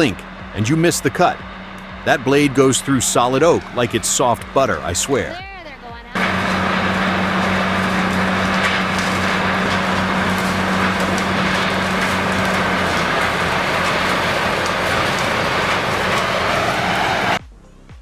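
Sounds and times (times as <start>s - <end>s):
loud machine humming: 0.0s - 17.4s.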